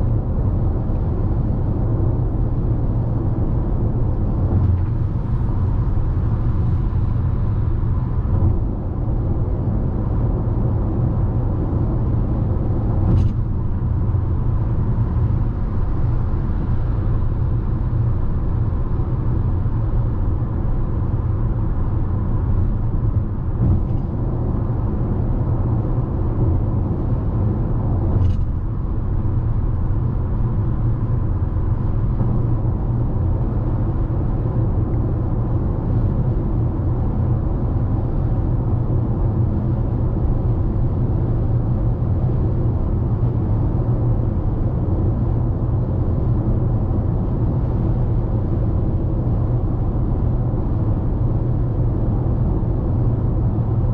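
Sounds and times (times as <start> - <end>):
road and tyre noise in car cabin: 0.0 - 53.9.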